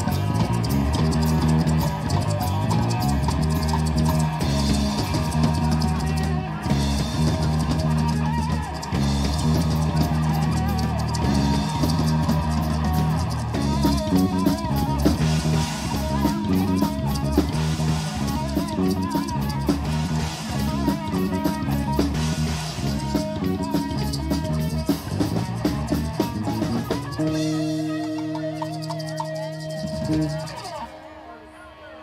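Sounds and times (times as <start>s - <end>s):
drum kit: 0.0s - 31.0s
bass guitar: 0.0s - 31.3s
electric guitars: 0.0s - 32.0s.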